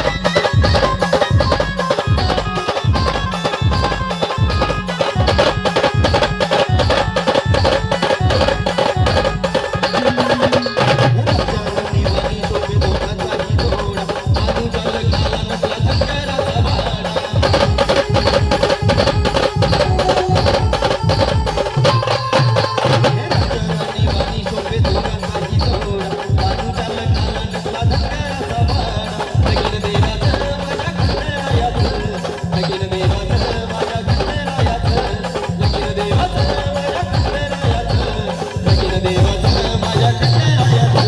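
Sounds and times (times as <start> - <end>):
band playing live: 0.0 - 41.0
fast drum beat: 0.0 - 41.0.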